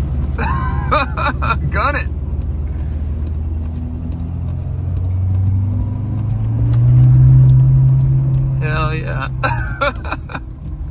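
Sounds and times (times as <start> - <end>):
truck engine accelerating: 0.0 - 10.9.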